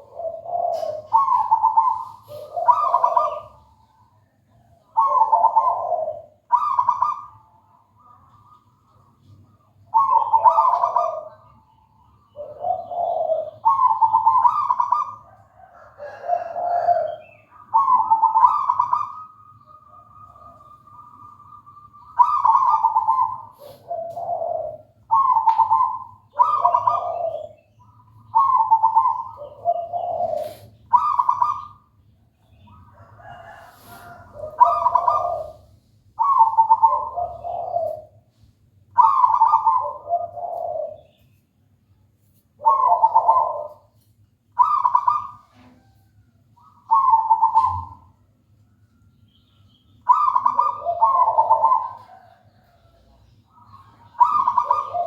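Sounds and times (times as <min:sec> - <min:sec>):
dove cooing: 0:00.0 - 0:41.4, 0:42.4 - 0:48.4, 0:50.0 - 0:55.0.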